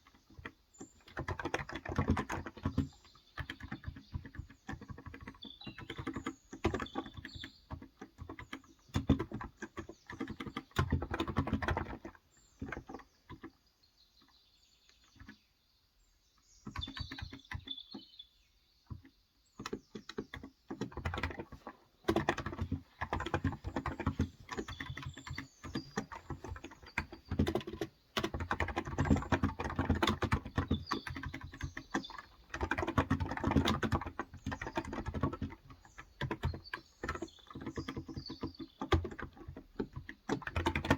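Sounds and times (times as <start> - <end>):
faint birds chirping: 0.0 - 40.9
keyboard typing: 0.3 - 13.5, 16.6 - 17.7, 18.9 - 40.9.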